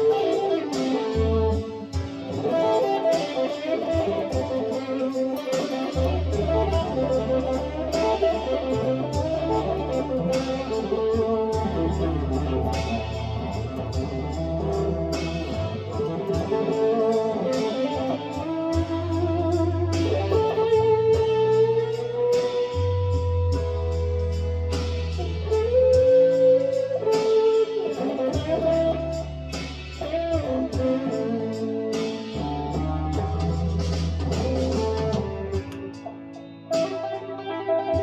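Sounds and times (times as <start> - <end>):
backing track with bass notes: 0.0 - 38.0
electric guitar lead: 0.0 - 38.0.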